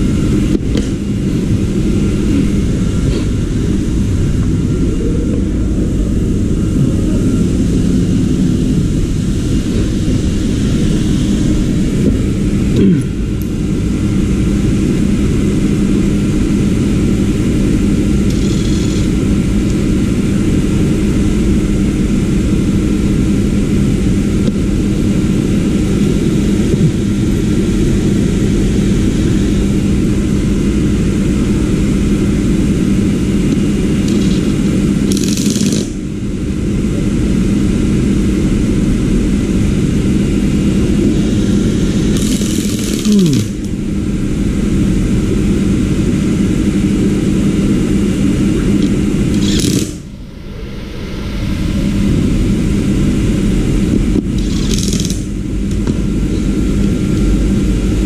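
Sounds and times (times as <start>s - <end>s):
motor droning: 0.0s - 58.0s.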